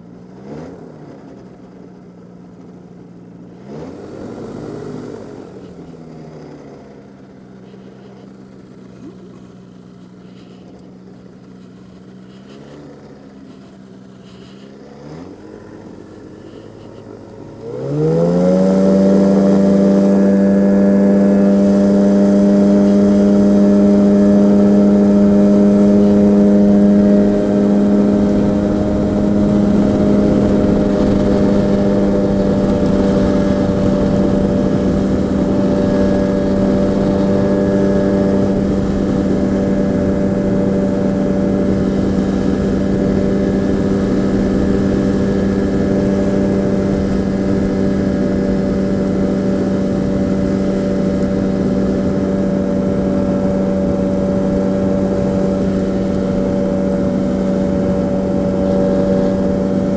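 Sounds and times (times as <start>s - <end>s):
engine at full power drone: 0.0s - 59.9s
engine throttle blips: 0.0s - 59.9s
two-stroke engine idling: 4.2s - 59.9s.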